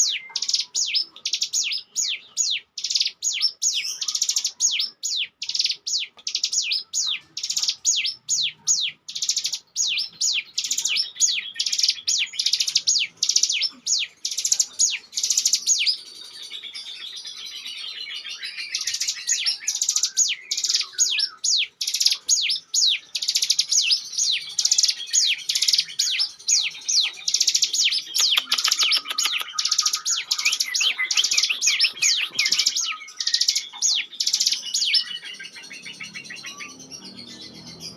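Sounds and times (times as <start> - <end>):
bird singing fast chirps: 0.0 - 37.9.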